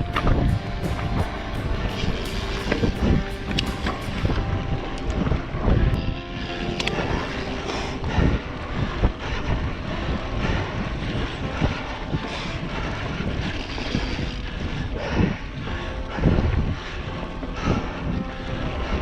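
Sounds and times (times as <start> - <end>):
bike tyre noise on trail: 0.0 - 19.0
wind buffeting microphone: 0.0 - 19.0.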